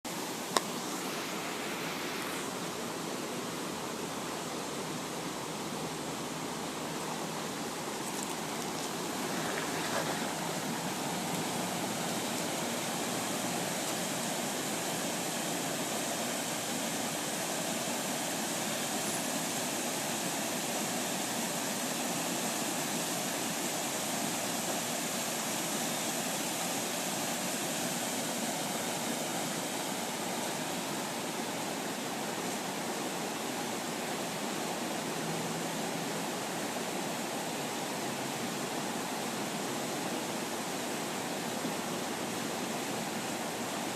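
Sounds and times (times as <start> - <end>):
rush of fast-flowing floodwater: 0.1 - 43.9.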